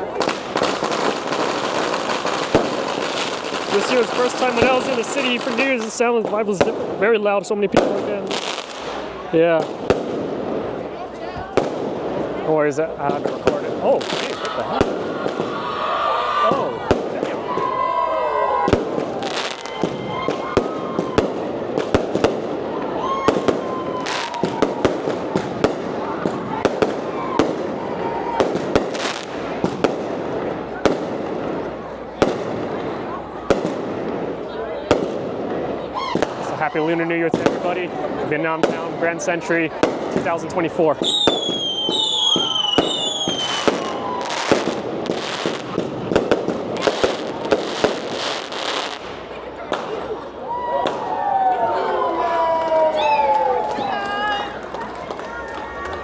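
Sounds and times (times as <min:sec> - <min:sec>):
firecrackers banging: 0:00.0 - 0:56.0.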